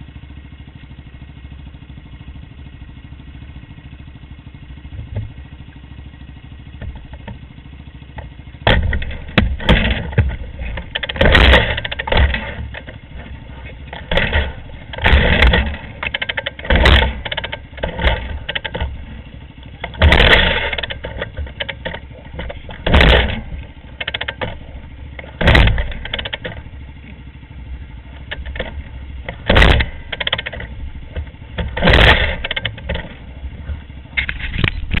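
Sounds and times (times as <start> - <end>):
off-road vehicle engines surging: 0.0 - 35.0.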